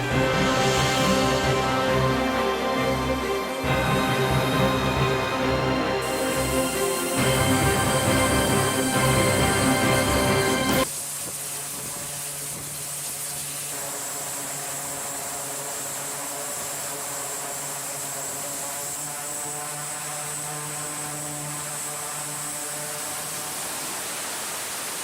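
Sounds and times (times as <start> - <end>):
aircraft engine noise: 0.0 - 25.0.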